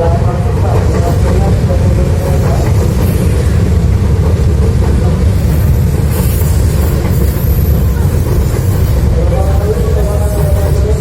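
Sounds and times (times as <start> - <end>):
electric train rumbling on rails: 0.0 - 11.0.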